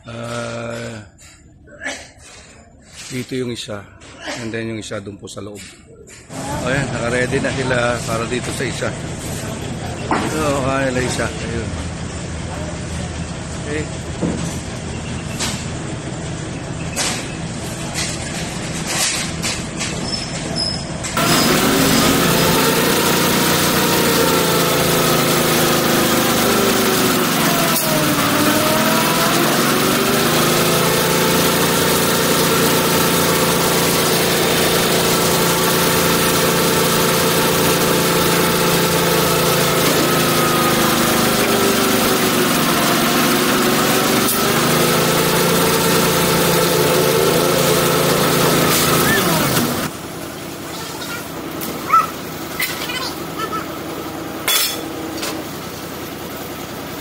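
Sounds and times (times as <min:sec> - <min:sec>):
truck engine running: 0:06.2 - 0:57.0.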